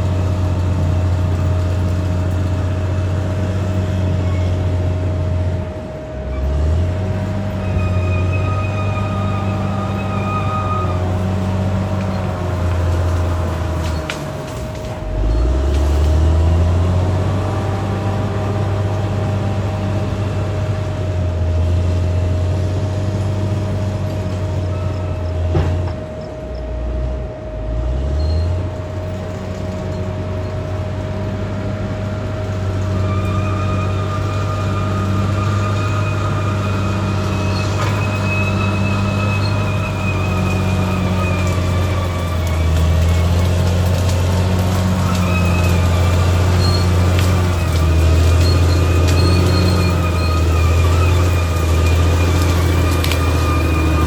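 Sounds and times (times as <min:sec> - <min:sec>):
high squeal: 0:00.0 - 0:05.0, 0:06.2 - 0:26.9, 0:28.1 - 0:54.0
bulldozer diesel engine running: 0:00.0 - 0:54.0.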